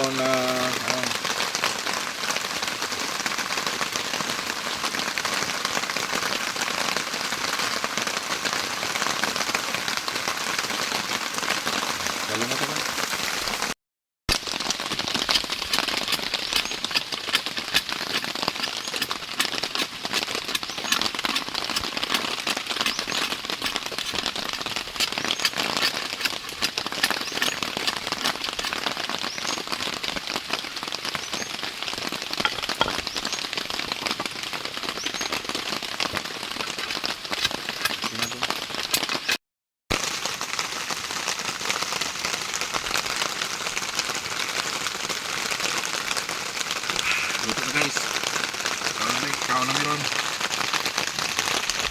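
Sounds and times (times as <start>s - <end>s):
heavy rain pattering: 0.0s - 51.9s.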